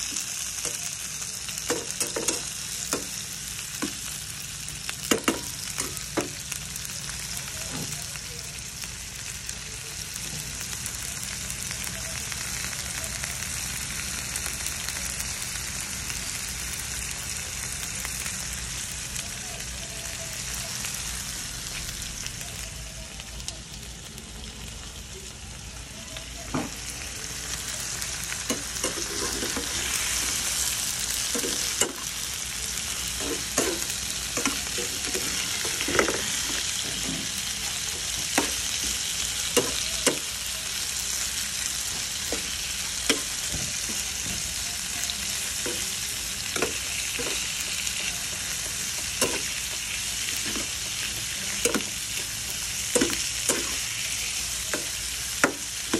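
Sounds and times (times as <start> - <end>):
shrimp sizzling in frying pan: 0.0 - 55.9.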